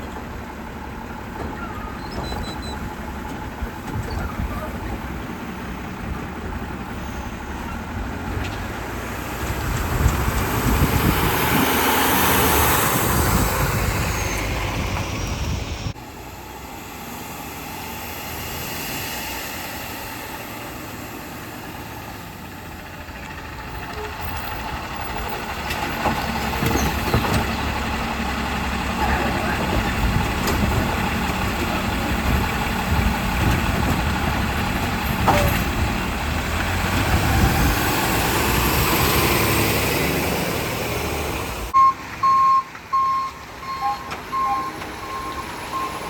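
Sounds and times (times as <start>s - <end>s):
garbage truck engine running: 0.0s - 42.2s.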